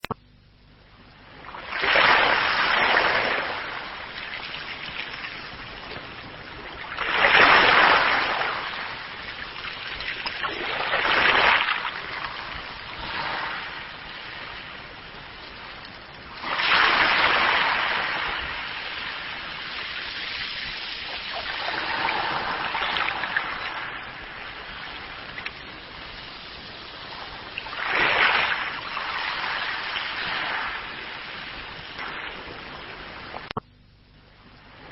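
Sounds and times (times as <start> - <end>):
sea waves breaking: 1.2 - 33.6.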